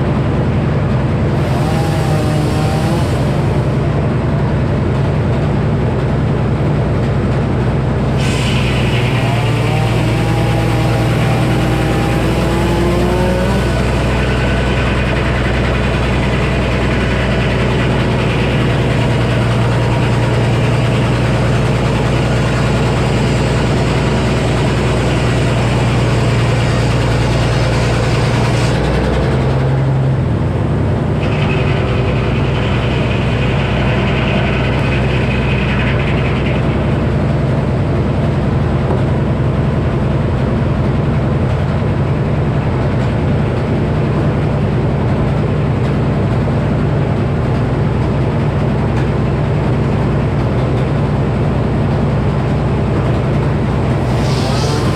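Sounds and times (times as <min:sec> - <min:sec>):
sawmill engine drone: 0:00.0 - 0:54.9.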